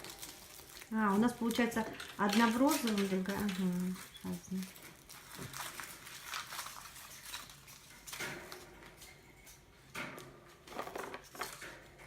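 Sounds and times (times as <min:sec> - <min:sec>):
plastic toys clicking and rustling: 0:00.0 - 0:12.0.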